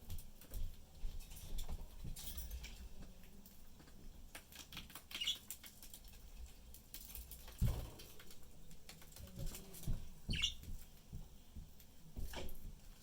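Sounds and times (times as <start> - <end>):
budgies eating clicks and taps: 0.0 - 12.5.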